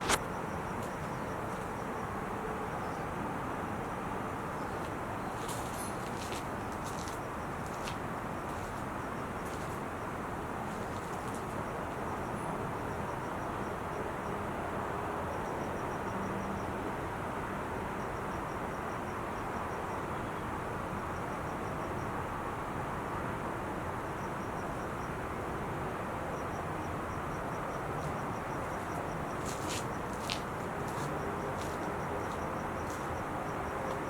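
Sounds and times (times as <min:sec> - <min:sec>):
freeway traffic rushing: 0:00.0 - 0:34.0.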